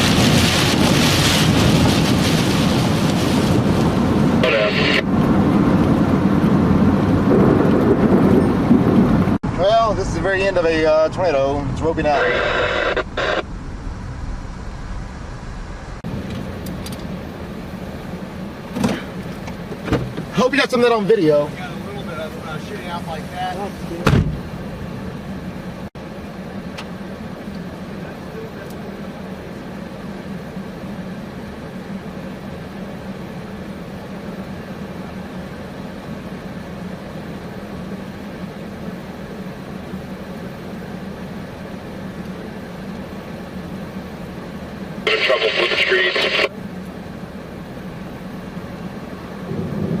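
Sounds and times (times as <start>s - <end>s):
road noise: 0.0s - 50.0s
vehicle engine rumble: 0.0s - 50.0s.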